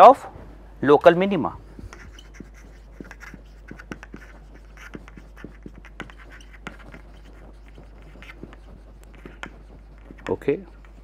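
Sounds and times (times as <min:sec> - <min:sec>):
marker writing on whiteboard: 0:01.4 - 0:11.0.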